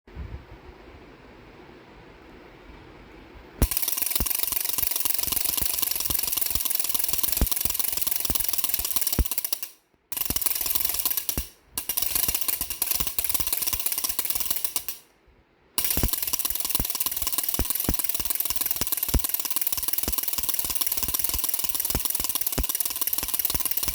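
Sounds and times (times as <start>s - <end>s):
baby rattle shaken: 3.6s - 15.0s, 15.8s - 23.9s.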